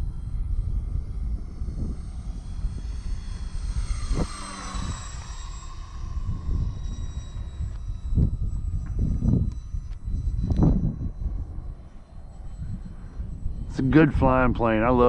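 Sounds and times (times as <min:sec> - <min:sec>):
model airplane propeller whine: 0:00.0 - 0:15.0
wind rumble on microphone: 0:00.0 - 0:15.0.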